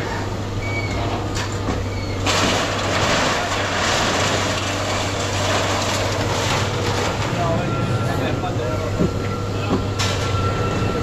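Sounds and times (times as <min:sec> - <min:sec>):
heavy machinery humming: 0:00.0 - 0:11.0.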